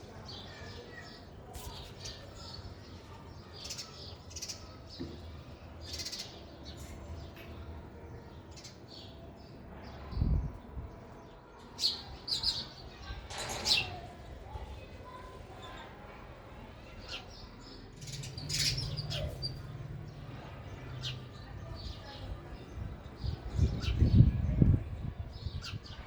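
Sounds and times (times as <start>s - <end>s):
sparrows chirping: 0.0s - 26.0s.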